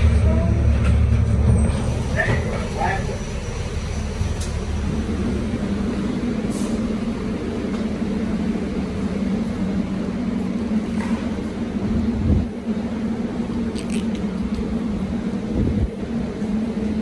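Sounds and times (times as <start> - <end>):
subway cars idling hum: 0.0 - 17.0.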